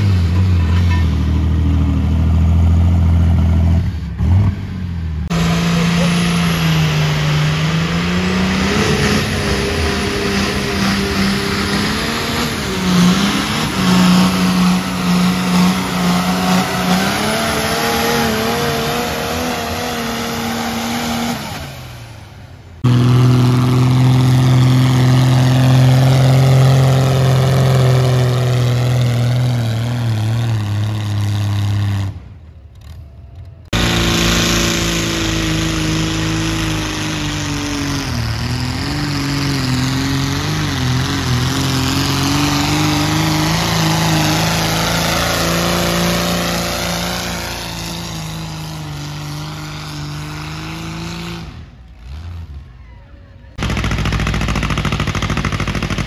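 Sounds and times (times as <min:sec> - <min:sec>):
tractor engines running hard: 0:00.0 - 0:56.0.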